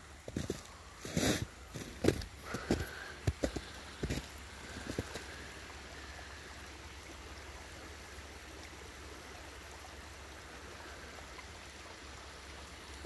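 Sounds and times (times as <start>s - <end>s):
shallow creek rushing: 0.0s - 13.0s.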